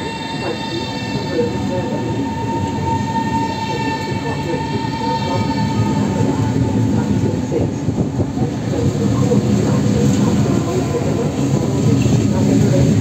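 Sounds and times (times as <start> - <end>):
train rumbling slowly: 0.0 - 13.0.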